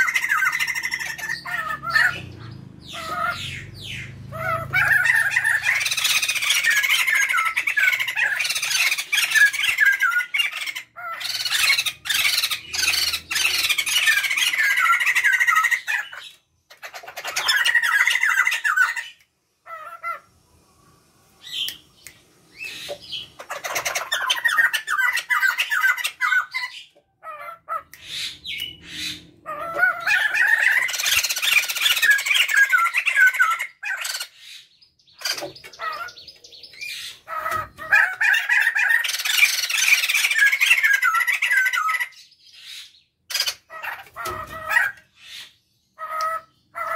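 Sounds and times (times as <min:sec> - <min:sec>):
birds chattering calls: 0:00.0 - 0:20.4, 0:21.4 - 0:46.9.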